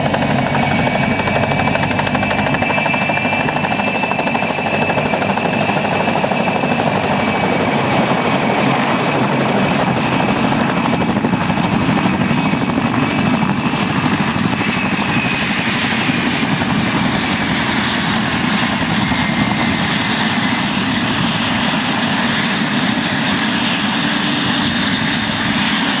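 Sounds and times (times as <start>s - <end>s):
helicopter rotor beating: 0.0s - 26.0s
helicopter turbine whine: 0.0s - 26.0s.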